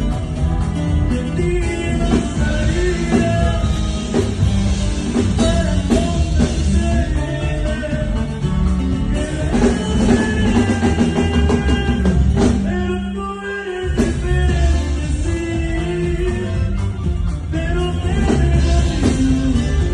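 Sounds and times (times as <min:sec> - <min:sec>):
band music with drums and bass: 0:00.0 - 0:19.9.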